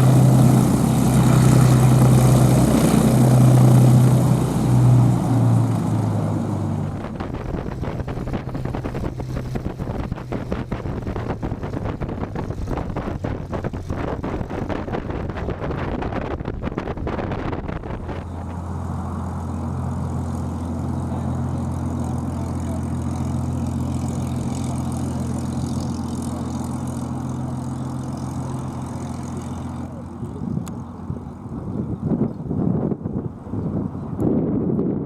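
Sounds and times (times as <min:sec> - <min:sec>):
engine humming: 0:00.0 - 0:35.0
wind buffeting microphone: 0:00.0 - 0:35.0.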